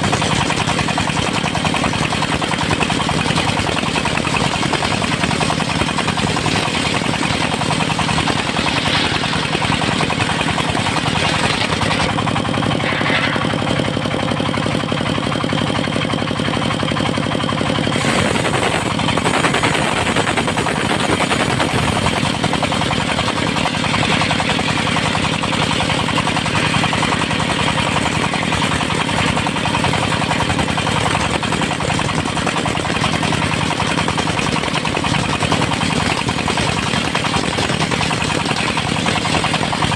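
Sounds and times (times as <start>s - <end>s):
engine-driven sawmill sawing wood: 0.0s - 39.9s.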